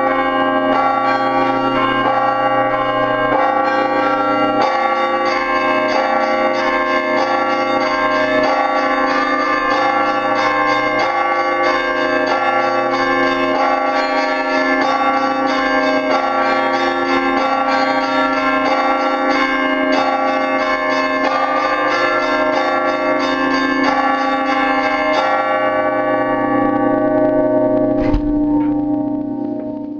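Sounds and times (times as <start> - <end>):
deep bell ringing: 0.0 - 29.9
peal of church bells: 0.0 - 29.9.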